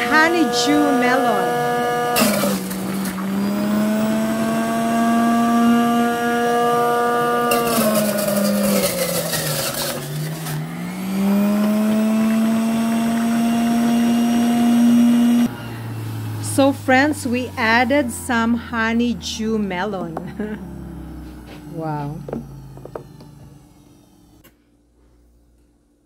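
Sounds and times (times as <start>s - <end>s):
juicer grinding fruit: 0.0s - 24.6s
juicer motor humming: 0.0s - 25.6s.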